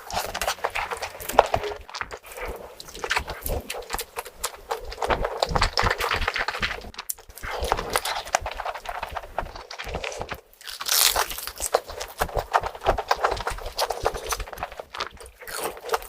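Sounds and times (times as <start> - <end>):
crunching and chewing food: 0.0 - 16.0.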